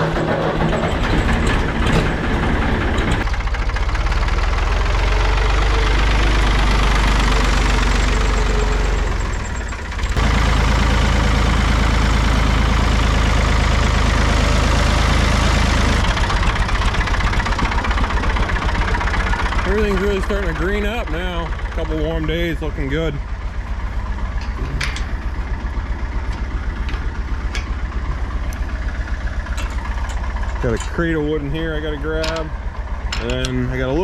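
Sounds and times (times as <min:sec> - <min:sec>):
diesel tractor engine idling: 0:00.0 - 0:34.0.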